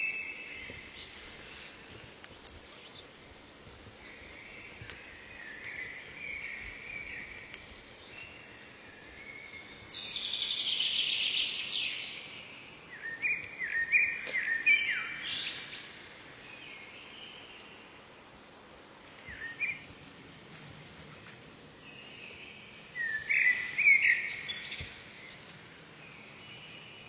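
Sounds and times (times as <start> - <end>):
songbirds calling: 0.0 - 20.2, 20.8 - 27.0
faint steady hiss: 0.0 - 27.0.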